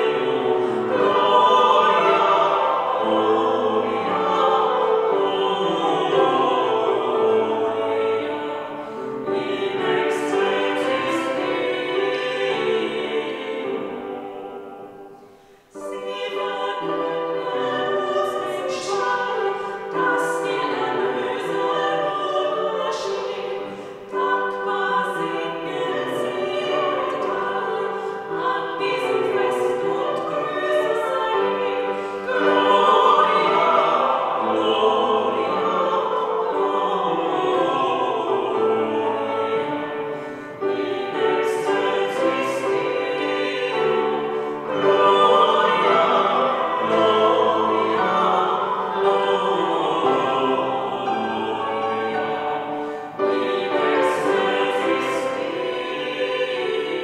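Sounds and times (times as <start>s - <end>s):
choir singing a hymn: 0.0s - 57.0s
grand piano: 0.0s - 57.0s.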